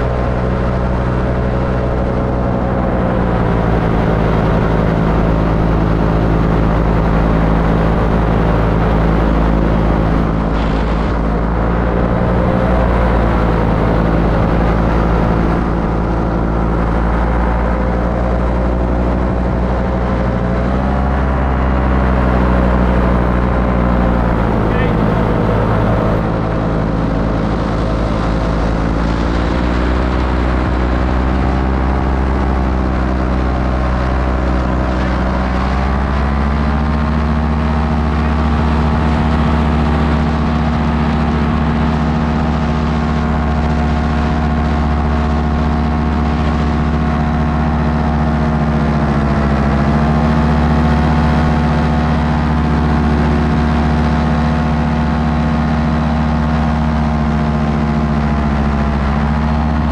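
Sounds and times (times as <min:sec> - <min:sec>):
paramotor engine and propeller: 0:00.0 - 0:59.9.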